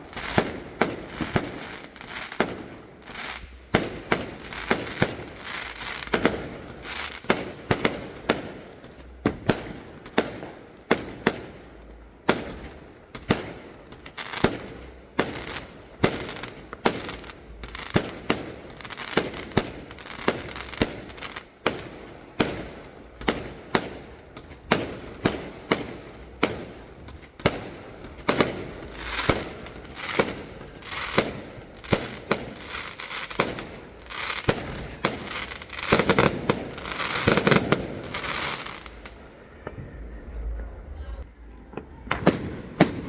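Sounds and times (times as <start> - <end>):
fireworks crackle: 0.0 - 40.0, 41.2 - 43.0
fireworks bangs: 0.0 - 43.0.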